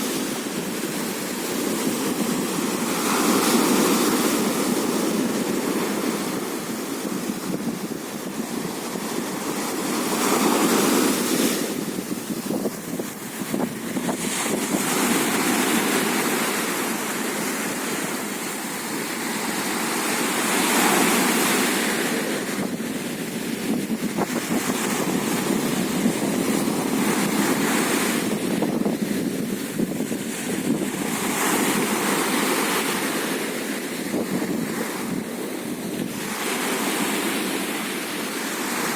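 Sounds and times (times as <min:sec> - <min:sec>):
sea waves washing onto shore: 0:00.0 - 0:38.9
wind: 0:00.0 - 0:38.9.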